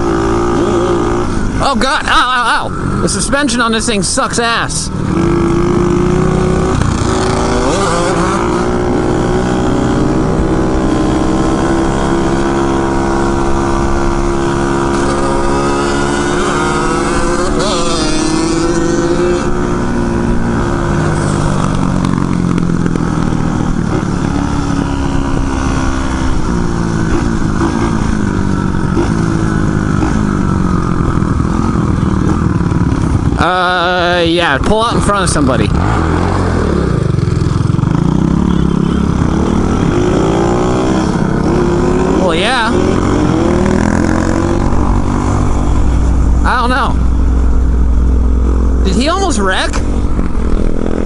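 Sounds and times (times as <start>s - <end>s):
pit bike engine running: 0.0s - 51.0s.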